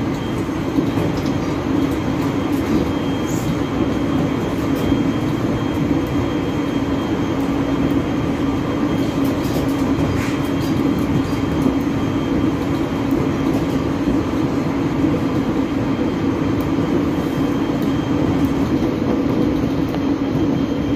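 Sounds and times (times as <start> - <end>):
constant low drone: 0.0 - 20.9
train wheels and motors rumbling: 0.0 - 20.9.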